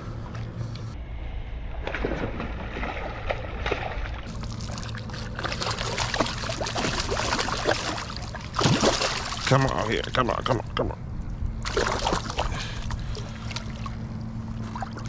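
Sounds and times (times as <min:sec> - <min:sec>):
water splashing and trickling: 0:01.8 - 0:15.0.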